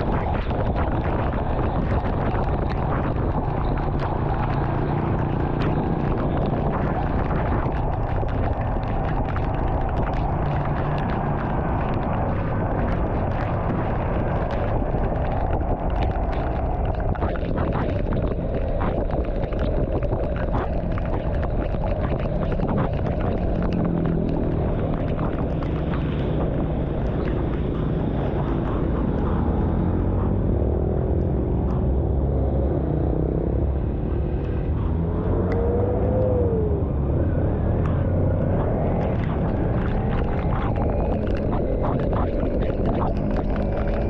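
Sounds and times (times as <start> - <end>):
rain ticking: 0.0 - 29.6, 37.8 - 44.0
vehicle rumbling on road: 0.0 - 44.0
wind noise: 0.0 - 44.0.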